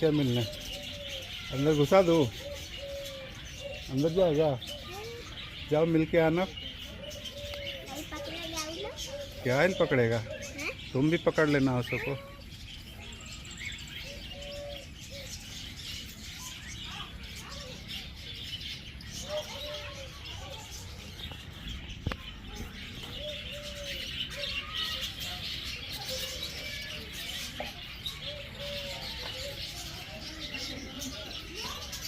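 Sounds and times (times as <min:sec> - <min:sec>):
birds chirping: 0:00.0 - 0:32.0
birds cooing: 0:00.0 - 0:32.0.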